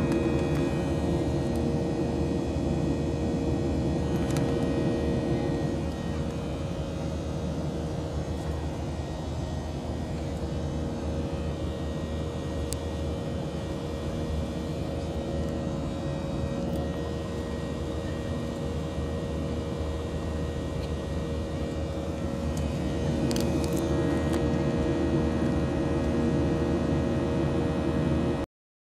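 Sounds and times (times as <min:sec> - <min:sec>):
airplane cabin roar: 0:00.0 - 0:28.4
droning hum: 0:00.0 - 0:28.4.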